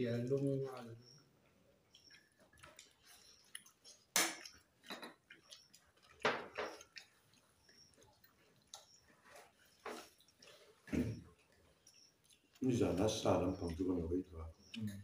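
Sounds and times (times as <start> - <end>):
food being chewed: 0.2 - 15.0.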